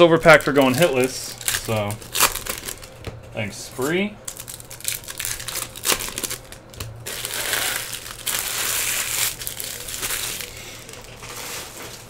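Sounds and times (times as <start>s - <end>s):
foil wrapper crinkling: 0.0s - 3.1s, 4.3s - 12.0s.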